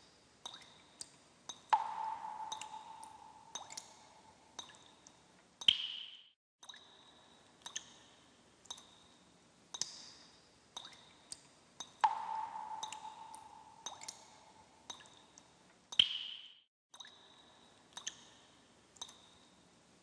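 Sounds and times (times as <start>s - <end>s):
water drips with ringing tone: 0.0s - 19.8s.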